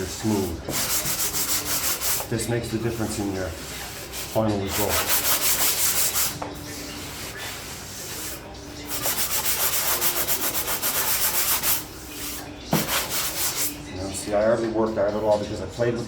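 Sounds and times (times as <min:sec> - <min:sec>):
sanding strokes rasping: 0:00.0 - 0:13.7.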